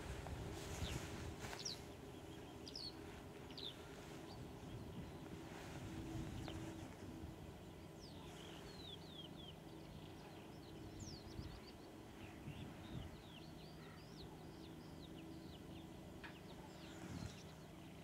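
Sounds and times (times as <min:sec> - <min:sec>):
distant diesel locomotive drone: 0:00.0 - 0:18.0.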